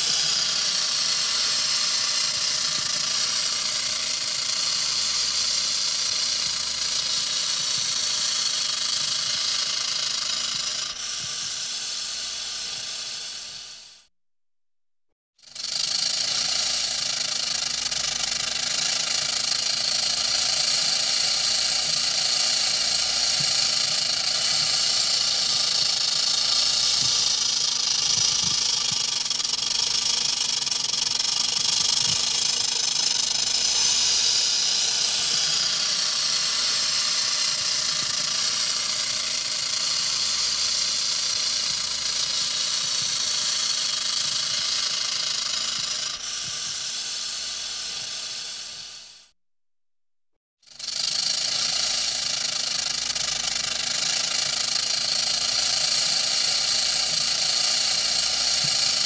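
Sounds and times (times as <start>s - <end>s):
rattlesnake rattle buzzing: 0.0s - 14.1s, 15.4s - 49.3s, 50.6s - 59.0s.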